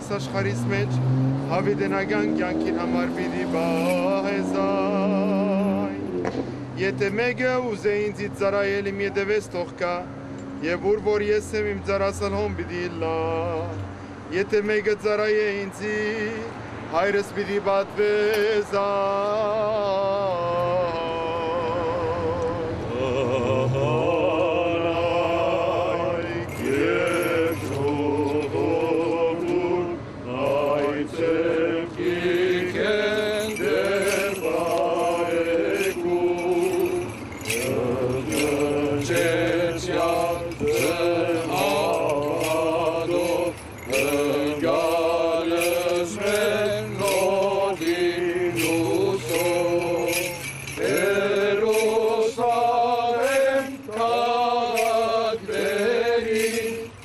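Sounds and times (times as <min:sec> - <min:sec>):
small bells jingling: 0:00.0 - 0:21.8, 0:24.0 - 0:57.0
man chanting a hymn: 0:00.0 - 0:57.0.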